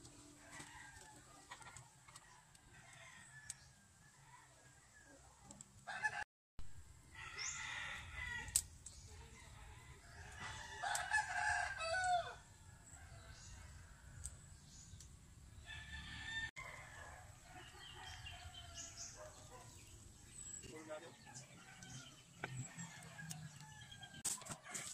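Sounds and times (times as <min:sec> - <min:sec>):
chickens calling: 0:00.1 - 0:03.1, 0:07.1 - 0:24.9.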